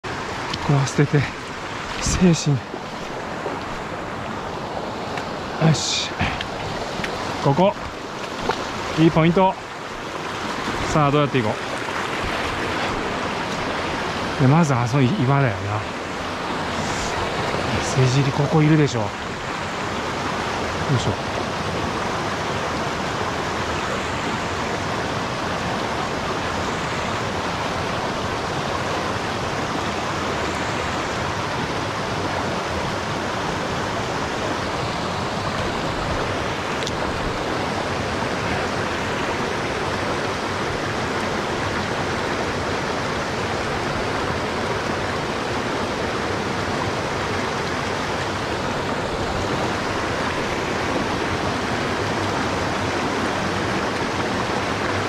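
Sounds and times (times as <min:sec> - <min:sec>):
mountain stream rushing: 0:00.0 - 0:55.0.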